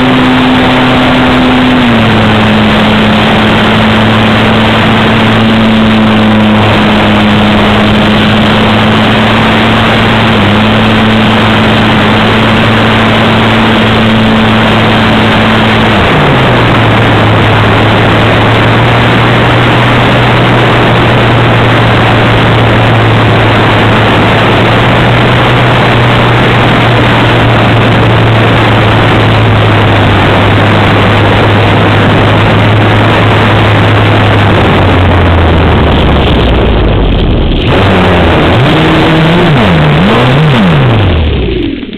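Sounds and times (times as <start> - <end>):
electric motor and propeller humming: 0.0 - 41.9
wind rushing over microphone: 0.0 - 41.9.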